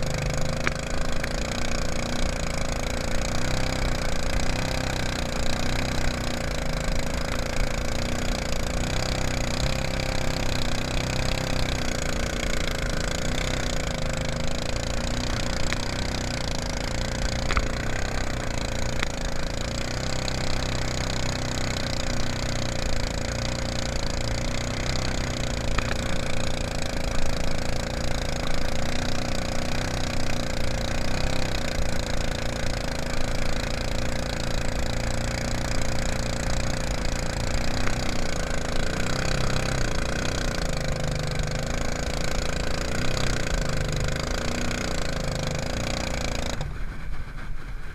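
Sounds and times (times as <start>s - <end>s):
mud motor running: 0.0s - 47.9s.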